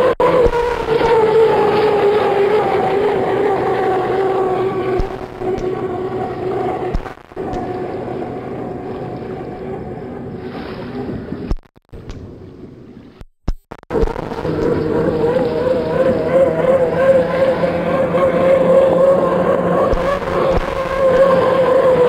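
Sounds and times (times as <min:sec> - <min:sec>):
model boat motor whining: 0:00.0 - 0:11.4, 0:13.9 - 0:22.0.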